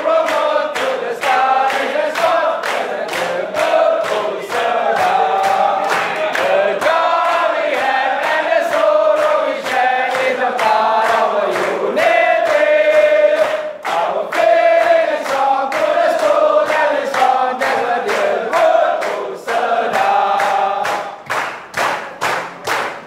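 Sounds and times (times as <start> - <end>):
men singing in unison: 0.0 - 21.2
hands clapping in time: 0.0 - 23.0.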